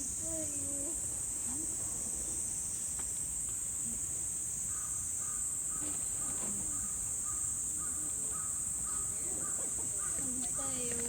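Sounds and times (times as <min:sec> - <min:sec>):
insect chorus drone: 0:00.0 - 0:11.0.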